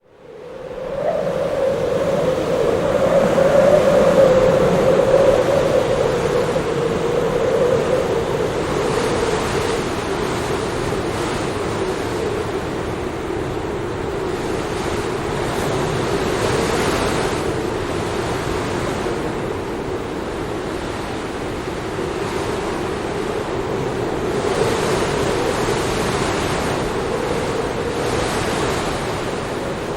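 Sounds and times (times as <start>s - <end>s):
snowstorm wind blowing: 0.0s - 29.9s.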